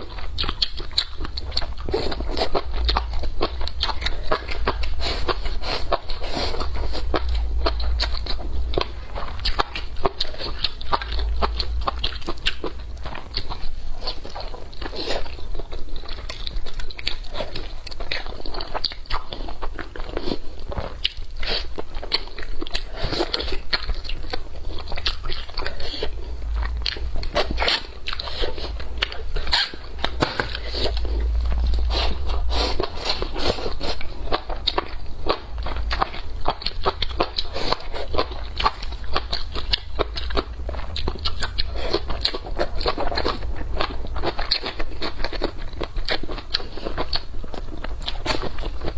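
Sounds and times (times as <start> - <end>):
crunchy chewing of food: 0.0 - 48.9.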